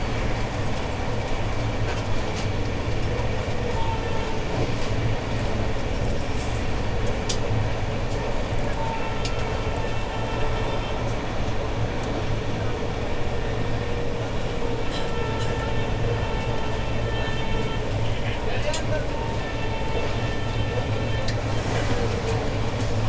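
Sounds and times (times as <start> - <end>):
train wheels rumbling on track: 0.0 - 23.0.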